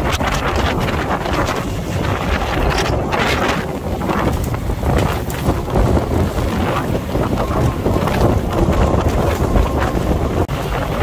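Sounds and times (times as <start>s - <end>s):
strong wind buffeting microphone: 0.0s - 11.0s
waves and spray along hull: 0.0s - 11.0s.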